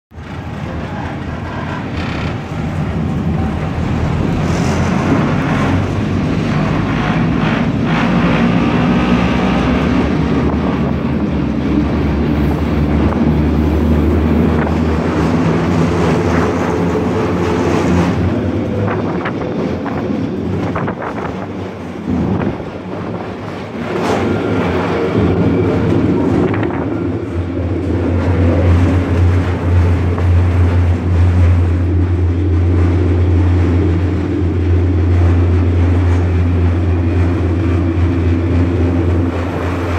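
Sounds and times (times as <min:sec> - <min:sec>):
train wheels rumbling on rails: 0:00.1 - 0:39.9.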